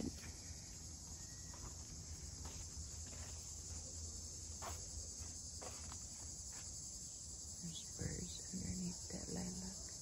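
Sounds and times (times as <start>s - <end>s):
insect chorus trilling: 0.0s - 10.0s.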